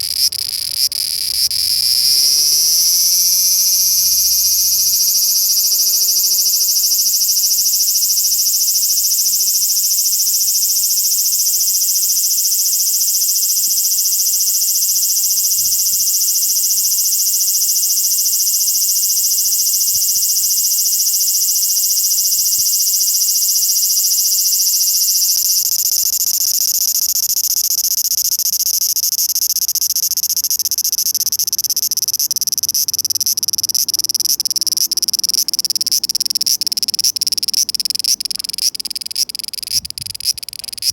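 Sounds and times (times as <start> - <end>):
cicadas droning: 0.0 - 40.9.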